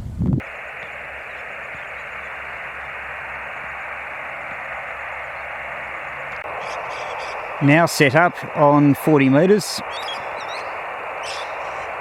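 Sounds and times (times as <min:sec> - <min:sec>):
radio static hiss: 0:00.4 - 0:12.0.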